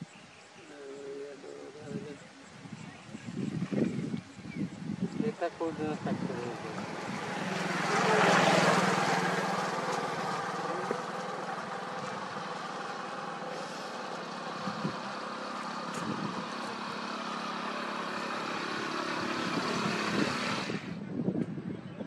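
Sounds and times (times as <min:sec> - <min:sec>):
motorcycle approaching: 0:01.9 - 0:21.3
motorcycle riding away: 0:03.2 - 0:21.2.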